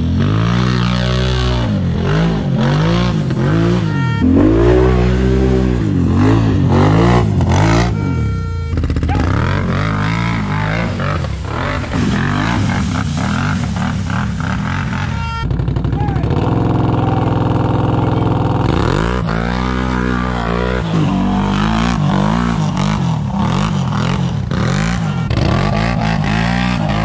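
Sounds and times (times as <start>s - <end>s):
atv engines revving: 0.0s - 27.0s.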